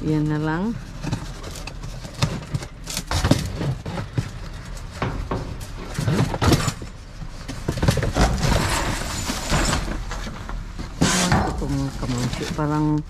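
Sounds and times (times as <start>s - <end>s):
plastic bags and cardboard rustling: 0.0s - 13.0s.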